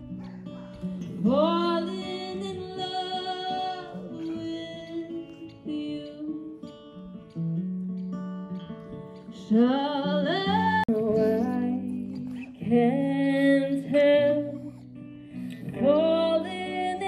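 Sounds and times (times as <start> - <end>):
acoustic guitar: 0.0 - 17.0
woman singing: 0.8 - 6.9, 9.3 - 17.0.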